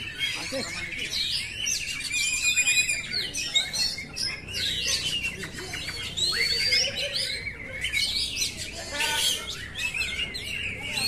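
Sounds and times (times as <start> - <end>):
magpie-robin singing: 0.0 - 11.0.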